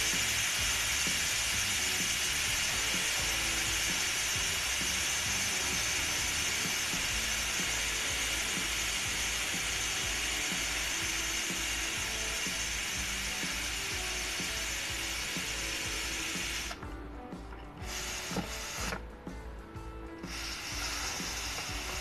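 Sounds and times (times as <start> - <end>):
steam hissing from valve: 0.0 - 16.9, 17.8 - 19.0, 20.1 - 22.0.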